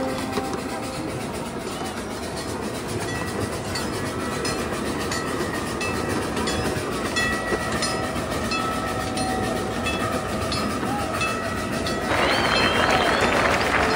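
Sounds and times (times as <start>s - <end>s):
train wheels rumbling: 0.0s - 13.9s.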